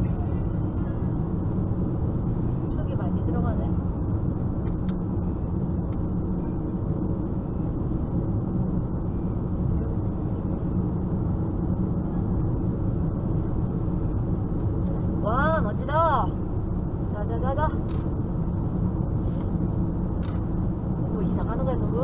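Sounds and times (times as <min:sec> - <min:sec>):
car cabin road and engine noise: 0:00.0 - 0:22.0.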